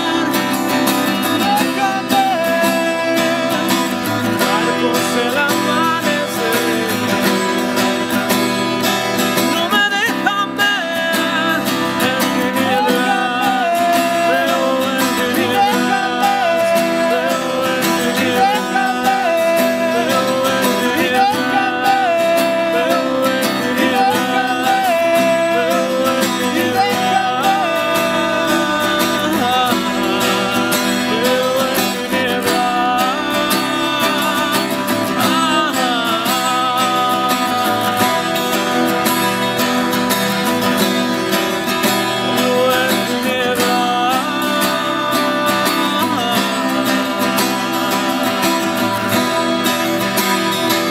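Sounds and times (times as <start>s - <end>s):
acoustic guitars playing: 0.0s - 50.9s
man singing: 0.0s - 50.9s.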